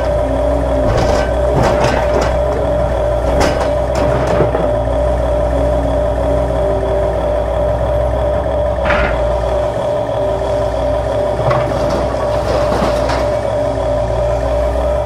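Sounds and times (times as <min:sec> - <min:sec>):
toy excavator motor drone and whine: 0:00.0 - 0:15.0.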